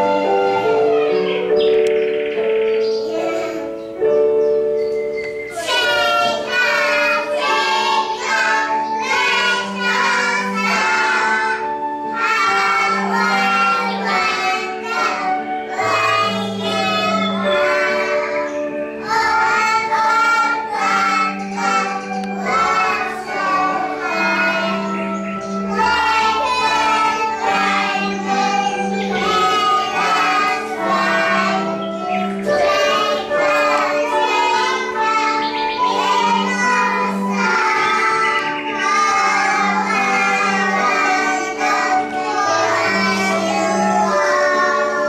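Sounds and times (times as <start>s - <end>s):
children singing: 0.0s - 45.0s.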